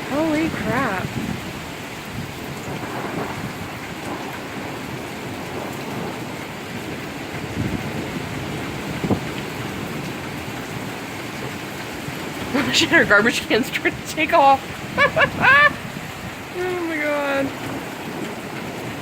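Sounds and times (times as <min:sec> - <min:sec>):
heavy rain falling: 0:00.0 - 0:19.0
thunder rumbling: 0:00.0 - 0:19.0.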